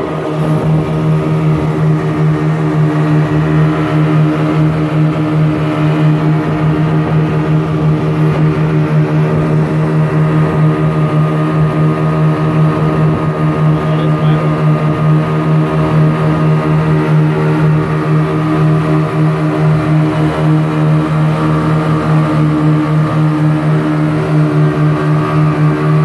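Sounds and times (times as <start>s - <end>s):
boat engines droning: 0.0s - 26.0s.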